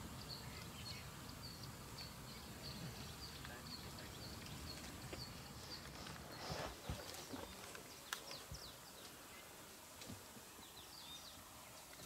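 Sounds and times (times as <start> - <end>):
quiet bush ambience: 0.0 - 12.0.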